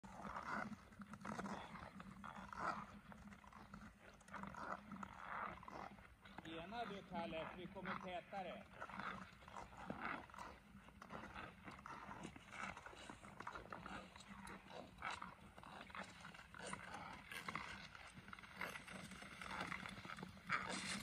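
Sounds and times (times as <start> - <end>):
skate blades scraping ice: 0.0 - 21.0.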